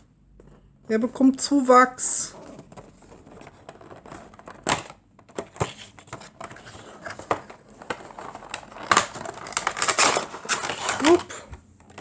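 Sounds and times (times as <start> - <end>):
packaging crinkling and rustling: 2.3 - 12.0.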